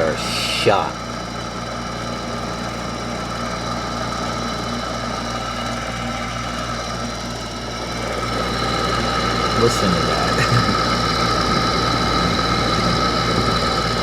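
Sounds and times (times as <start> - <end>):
air conditioner humming with whine: 0.0 - 14.0.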